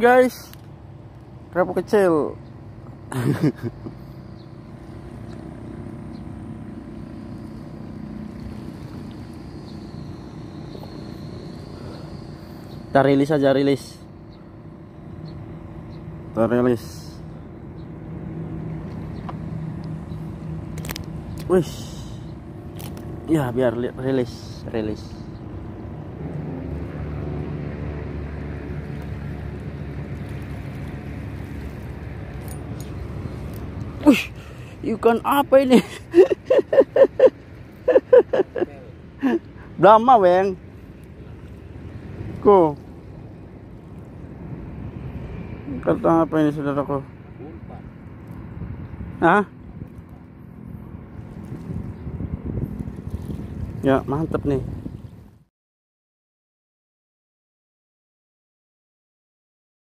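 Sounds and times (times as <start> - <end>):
engine droning steadily: 0.0 - 55.4.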